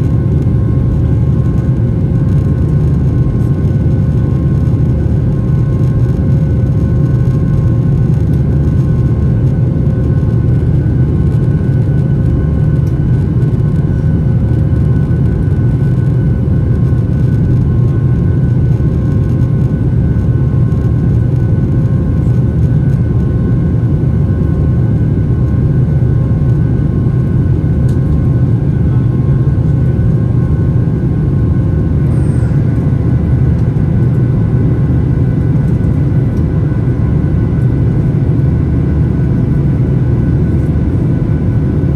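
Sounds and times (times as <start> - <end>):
airplane cabin engine rumble: 0.0 - 41.9
faint steady engine whine: 0.0 - 41.9.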